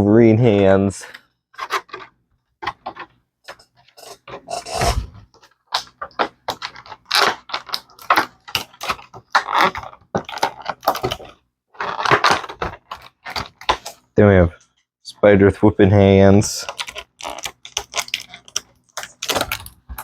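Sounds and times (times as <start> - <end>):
plastic parts clicking and rustling: 0.5 - 14.0, 16.6 - 20.0.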